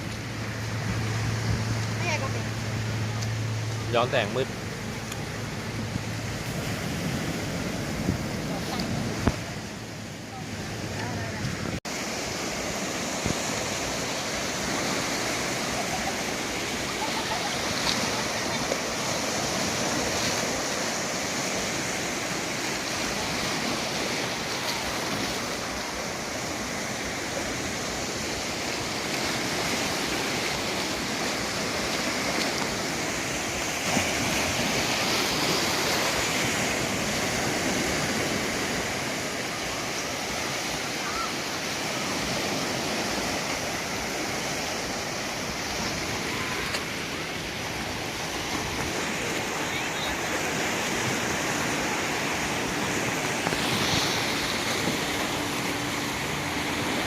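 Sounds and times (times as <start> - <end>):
surf washing onto beach: 0.0 - 57.0.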